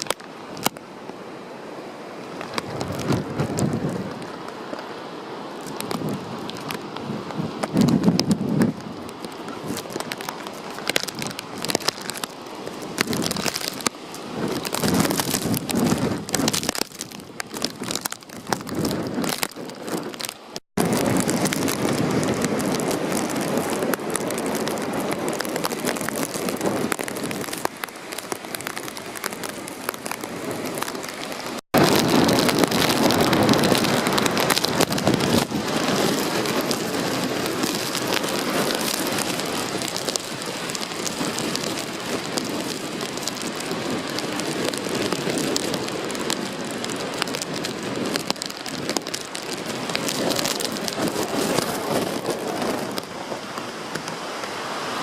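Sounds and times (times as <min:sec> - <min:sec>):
rain: 0:00.0 - 0:55.0
typhoon wind: 0:00.0 - 0:55.0.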